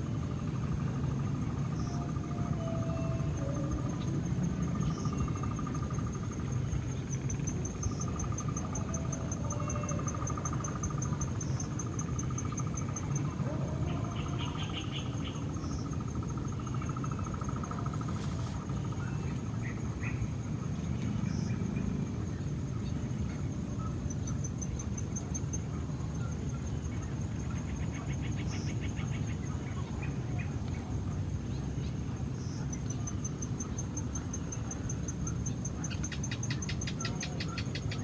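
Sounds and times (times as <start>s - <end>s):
high fast cricket trill: 0.0s - 38.0s
lower pulsed insect trill: 0.0s - 38.0s.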